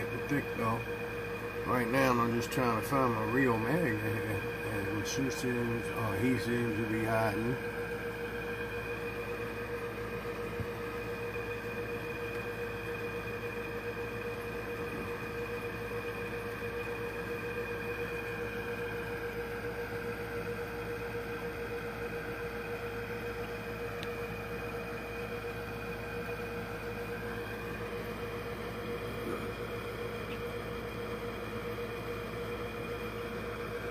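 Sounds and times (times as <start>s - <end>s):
aquarium air pump humming: 0.0s - 33.9s.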